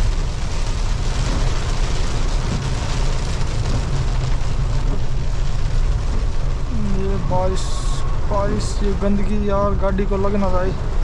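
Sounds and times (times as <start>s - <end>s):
engine and tyres rumbling: 0.0s - 11.0s
rain hissing: 0.0s - 11.0s
water spraying from wheels: 0.0s - 11.0s.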